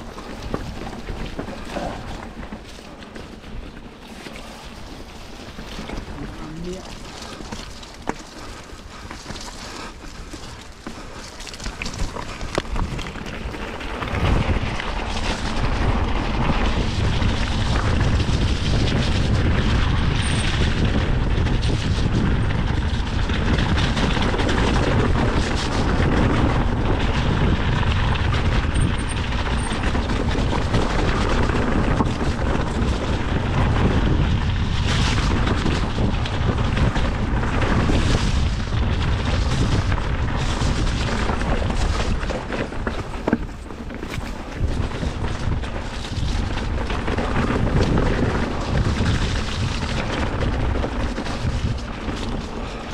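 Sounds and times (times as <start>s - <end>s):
bike tyres on gravel trail: 0.0s - 52.9s
wind rumble on microphone: 0.0s - 52.9s.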